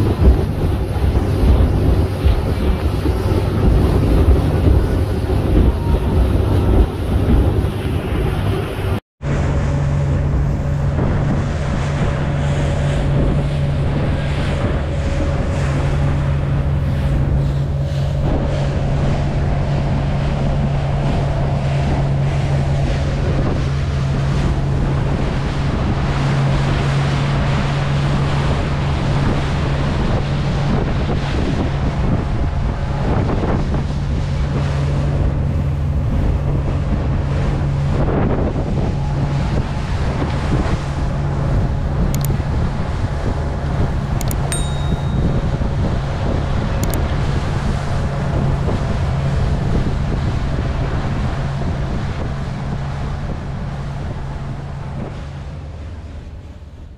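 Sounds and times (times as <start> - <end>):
boat engine humming: 0.0 - 56.9
water around hull: 0.0 - 56.9
wind noise on microphone: 0.0 - 56.9.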